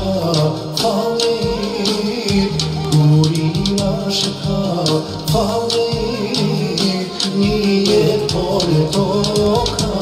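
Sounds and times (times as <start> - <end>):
keyboard melody: 0.0 - 10.0
programmed beat with high ticks: 0.3 - 10.0.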